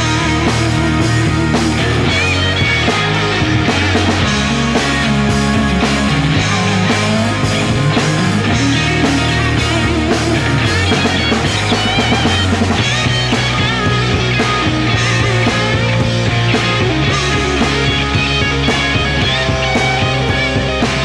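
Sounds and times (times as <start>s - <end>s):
rock music with guitar and drums: 0.0s - 21.0s.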